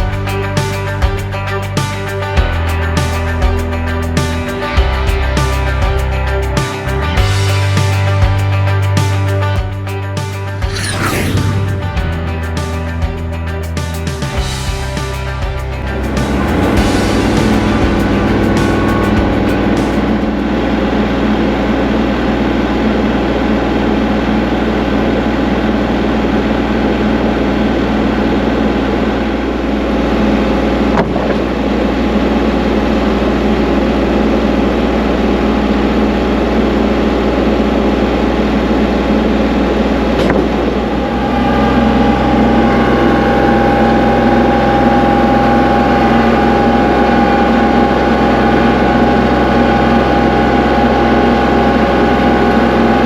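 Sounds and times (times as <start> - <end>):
engine running: 10.4 - 53.0.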